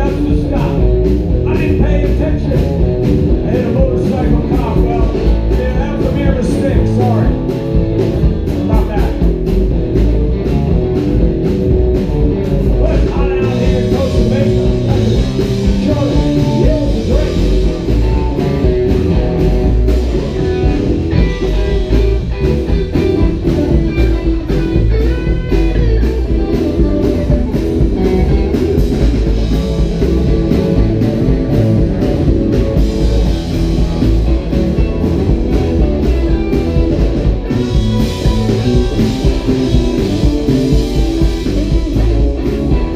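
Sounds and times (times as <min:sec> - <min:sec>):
rockabilly band playing loud: 0:00.0 - 0:42.9.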